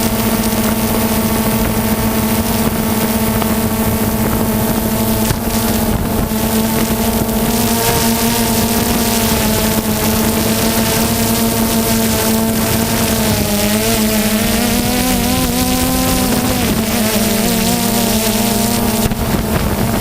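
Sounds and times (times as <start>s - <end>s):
aircraft engine droning: 0.0s - 20.0s
wind buffeting microphone: 0.0s - 20.0s.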